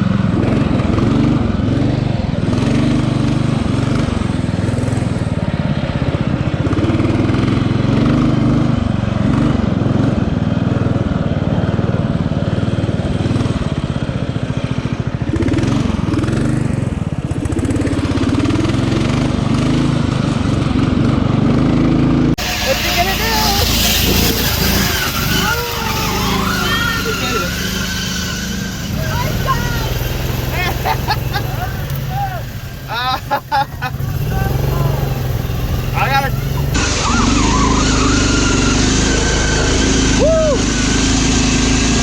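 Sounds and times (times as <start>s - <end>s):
riding lawn mower engine: 0.0s - 42.0s.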